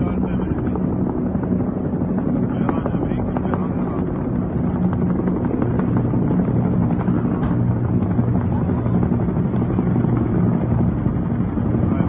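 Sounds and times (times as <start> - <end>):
helicopters flying overhead: 0.0 - 12.0.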